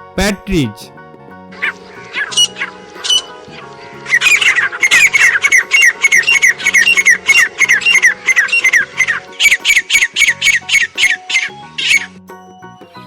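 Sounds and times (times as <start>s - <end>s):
partridge calling: 1.6s - 12.2s.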